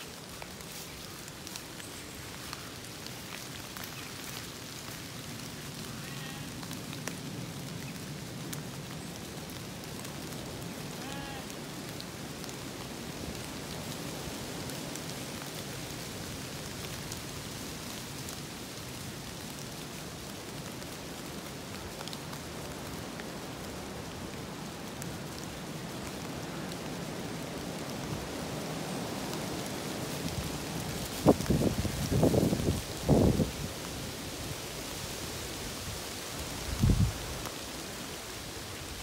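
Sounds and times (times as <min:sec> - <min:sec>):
sheep hooves crunching dry leaves: 0:00.0 - 0:39.0.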